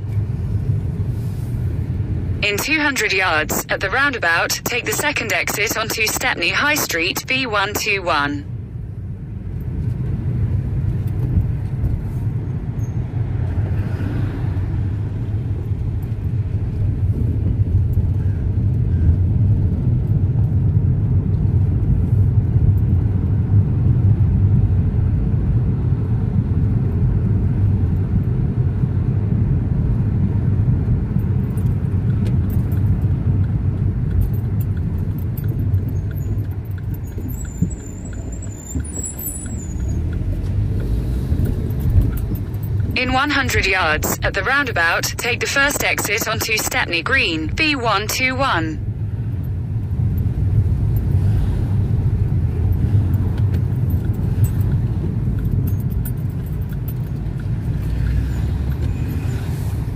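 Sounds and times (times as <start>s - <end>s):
car engine and tyres rumbling: 0.0s - 2.4s, 8.5s - 43.9s, 48.8s - 59.9s.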